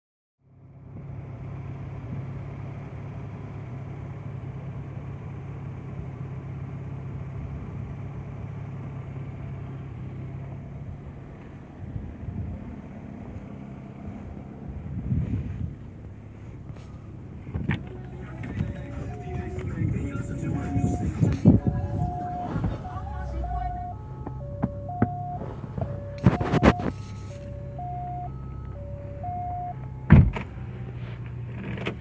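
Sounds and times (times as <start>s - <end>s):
engine idling with low hum: 0.4s - 32.0s.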